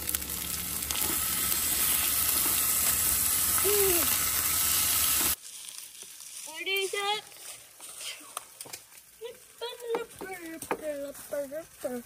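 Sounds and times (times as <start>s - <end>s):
food sizzling: 0.0s - 7.8s, 8.5s - 12.0s.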